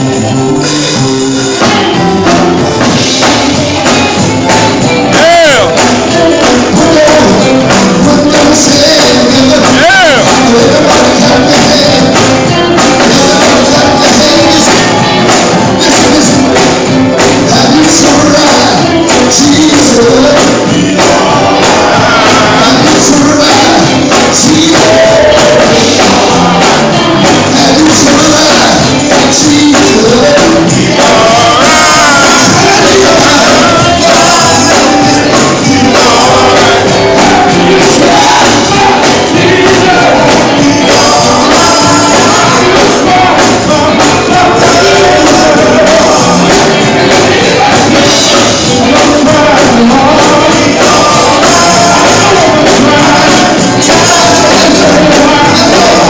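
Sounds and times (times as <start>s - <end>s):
loud gospel music: 0.0s - 56.0s
singing voices: 0.0s - 56.0s
tambourine: 0.0s - 56.0s.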